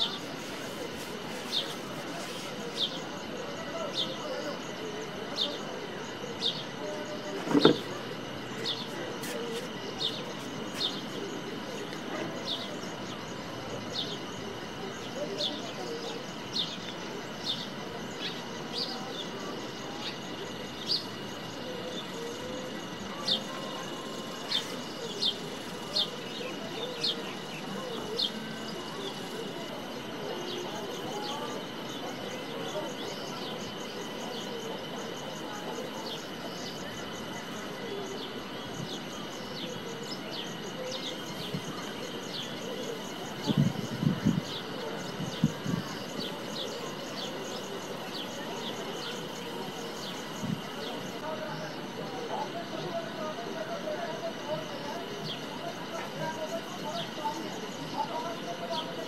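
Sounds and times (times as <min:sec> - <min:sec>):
cicada drone: 0:00.0 - 0:59.0.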